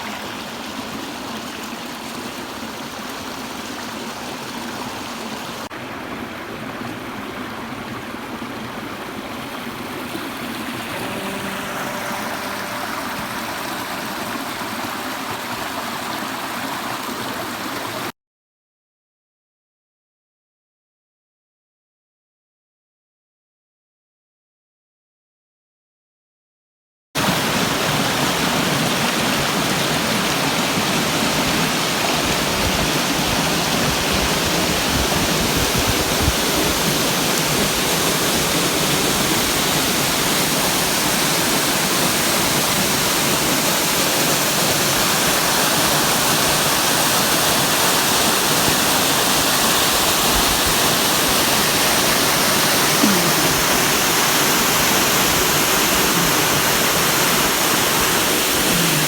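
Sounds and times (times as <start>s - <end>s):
waterfall roaring: 0.0s - 18.1s, 27.2s - 59.0s.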